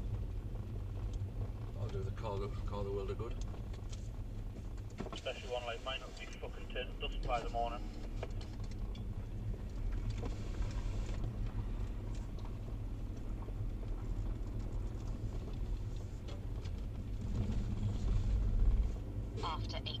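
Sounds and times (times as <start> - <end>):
car road noise rumble: 0.0 - 20.0
gravel crackling under tyres: 0.0 - 20.0.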